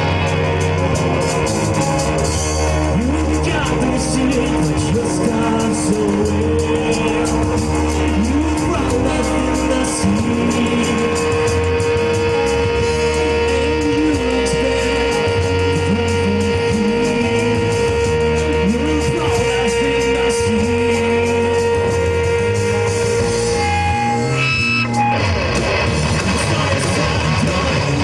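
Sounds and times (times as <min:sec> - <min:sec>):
bass line: 0:00.0 - 0:28.0
gliding guitar lines: 0:00.0 - 0:28.0
strummed electric guitar: 0:00.0 - 0:28.0
sustained guitar tone: 0:00.0 - 0:28.0.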